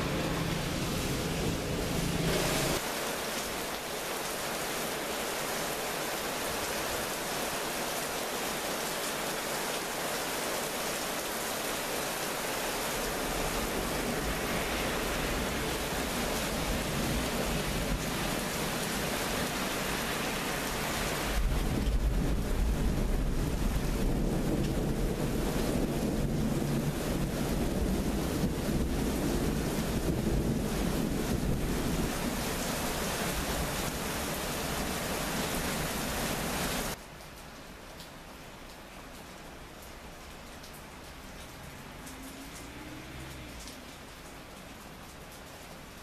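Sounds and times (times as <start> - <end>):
heavy rain hiss: 0.0 - 46.0.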